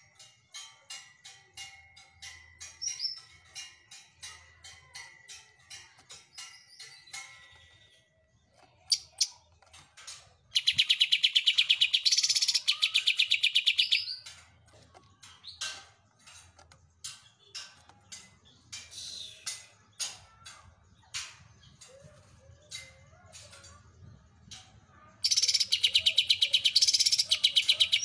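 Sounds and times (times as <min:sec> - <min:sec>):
bird chirping and trilling: 0:00.1 - 0:28.0.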